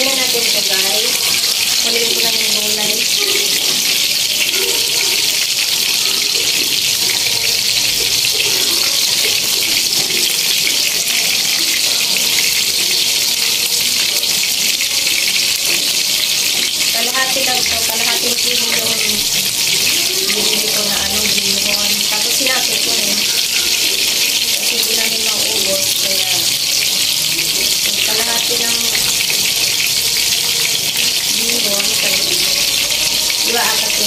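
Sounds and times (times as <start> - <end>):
broth boiling in a wok: 0.0 - 34.0
faint voices: 0.0 - 34.0.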